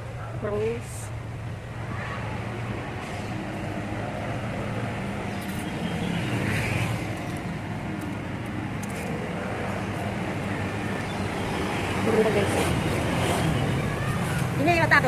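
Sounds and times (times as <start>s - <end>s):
passing cars rumbling: 0.0s - 15.0s
vehicle passing by: 1.8s - 15.0s.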